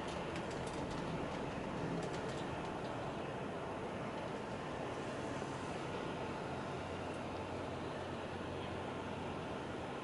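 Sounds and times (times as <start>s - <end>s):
bus engine and tyre drone: 0.0s - 10.0s.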